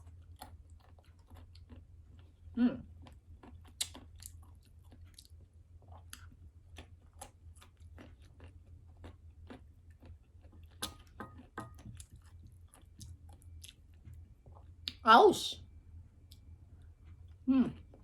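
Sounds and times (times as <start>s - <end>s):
person chewing food: 0.0s - 15.0s, 16.2s - 18.0s
low steady hum: 0.0s - 18.0s.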